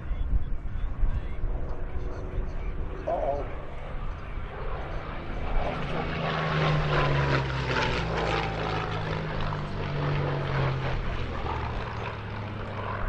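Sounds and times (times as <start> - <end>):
propeller aircraft engines droning: 0.0 - 13.0.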